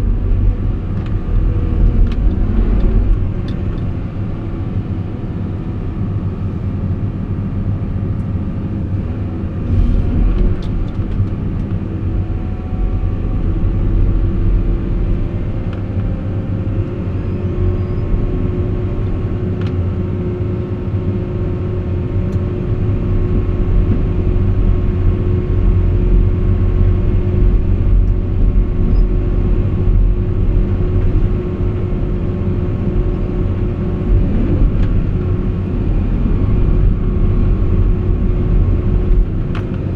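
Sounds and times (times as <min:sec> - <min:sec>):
excavator diesel engine rumbling: 0:00.0 - 0:39.9.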